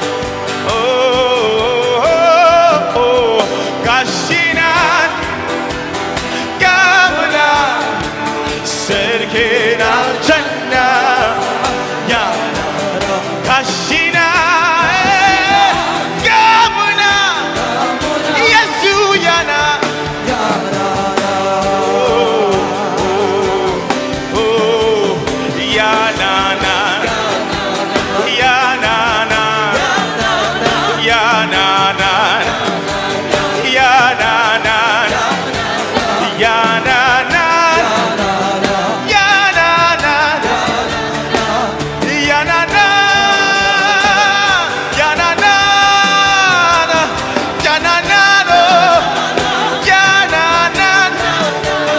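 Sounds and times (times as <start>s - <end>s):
band playing: 0.0s - 51.9s
singers chanting melodically: 0.0s - 51.9s
steady drum beat: 0.0s - 51.9s.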